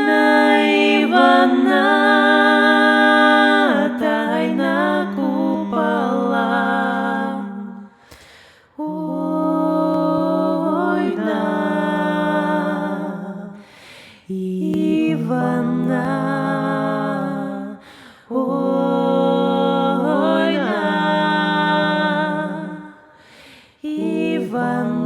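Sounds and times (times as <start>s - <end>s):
a cappella voices humming chords: 0.0s - 25.0s.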